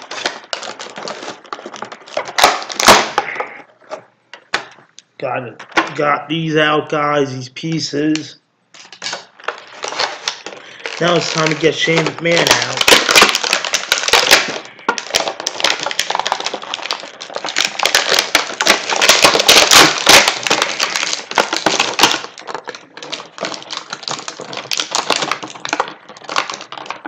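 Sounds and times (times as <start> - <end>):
plastic packaging clicking and crackling: 0.0 - 4.9, 8.7 - 27.0.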